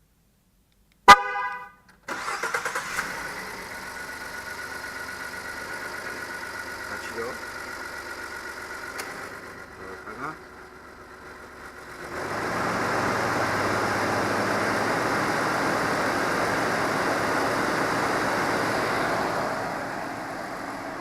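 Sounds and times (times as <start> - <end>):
low engine hum: 3.0 - 21.0.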